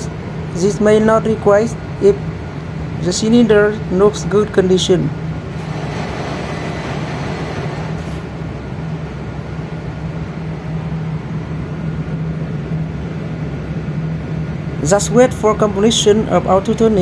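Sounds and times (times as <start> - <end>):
ship engine room machinery drone: 0.0 - 17.0.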